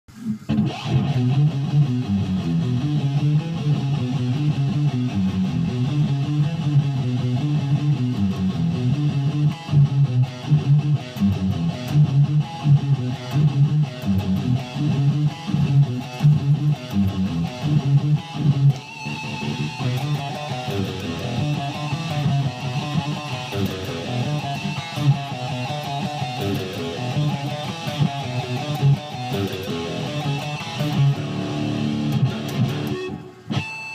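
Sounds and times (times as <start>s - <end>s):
strummed guitar music: 0.3s - 33.9s.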